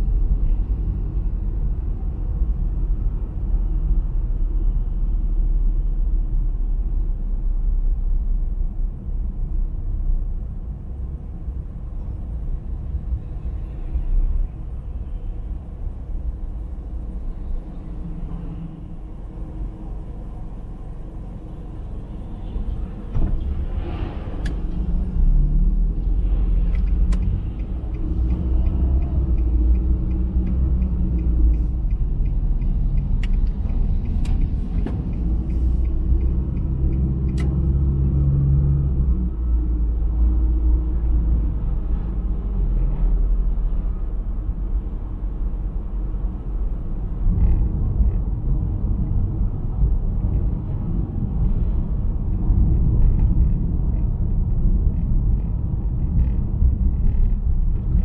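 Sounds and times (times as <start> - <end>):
road and engine rumble inside car: 0.0 - 58.0.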